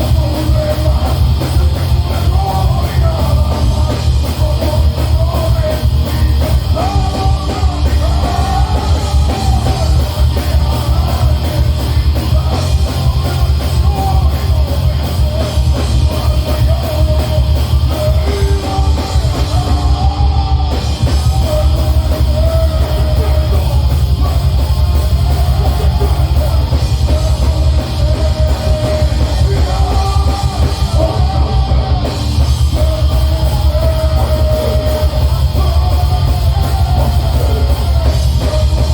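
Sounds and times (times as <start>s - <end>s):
distorted guitars: 0.0s - 38.9s
fast dense drumming: 0.0s - 38.9s
heavy bass: 0.0s - 38.9s.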